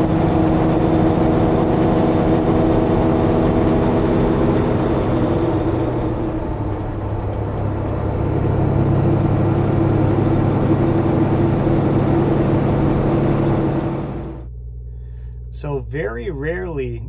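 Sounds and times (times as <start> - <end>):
truck diesel engine under load: 0.0 - 14.6
high engine whine: 0.0 - 17.0.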